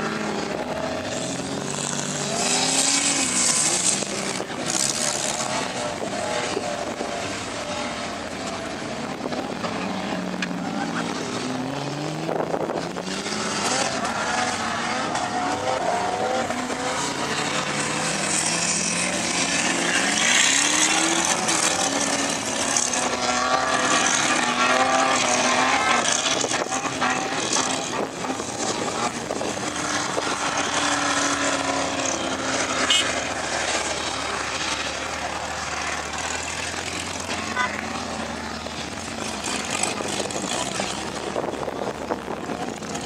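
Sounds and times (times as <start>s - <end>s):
off-road engine revving: 0.0s - 43.0s.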